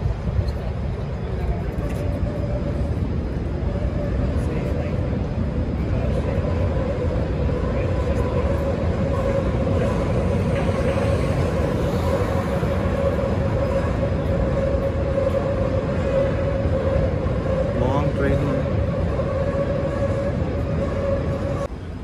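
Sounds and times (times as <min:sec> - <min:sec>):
city traffic rumble: 0:00.0 - 0:22.0
elevated train running: 0:00.0 - 0:22.0.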